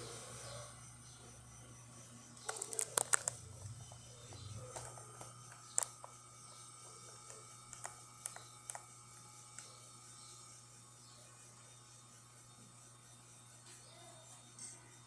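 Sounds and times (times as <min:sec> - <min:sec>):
espresso machine pump hum: 0:00.0 - 0:13.9.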